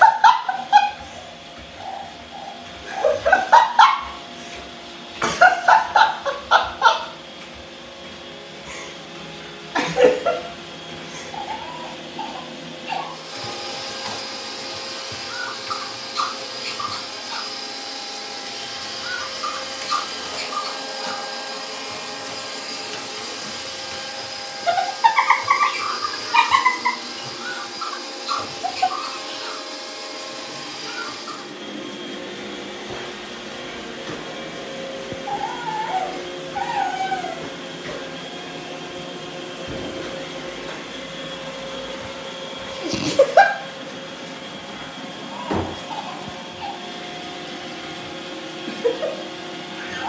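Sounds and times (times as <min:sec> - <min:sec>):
robot vacuum whirring hum: 0:00.0 - 0:50.0.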